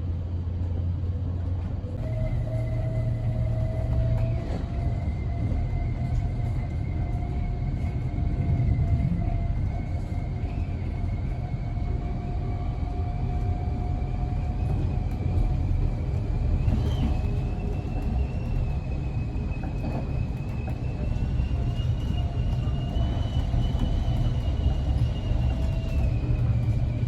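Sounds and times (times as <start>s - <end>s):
train running low rumble: 0.0s - 27.0s.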